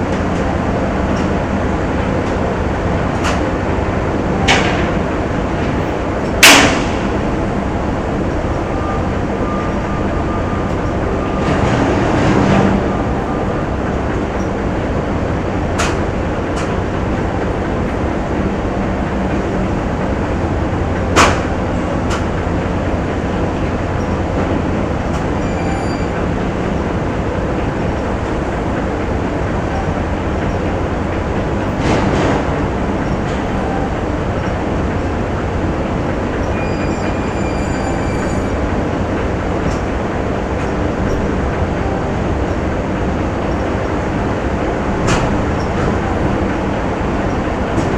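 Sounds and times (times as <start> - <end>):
factory machinery hum: 0.0 - 47.9.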